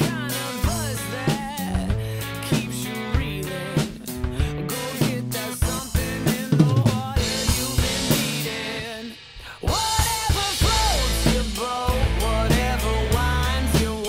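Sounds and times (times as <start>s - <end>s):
acoustic drum kit playing: 0.0s - 14.0s
pop-rock backing track: 0.0s - 14.0s.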